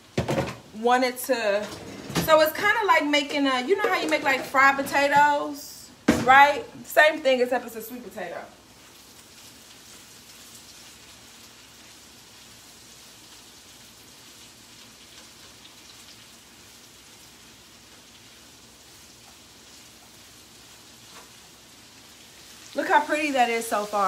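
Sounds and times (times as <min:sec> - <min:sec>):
vegetables sizzling in a frying pan: 0:00.0 - 0:24.0.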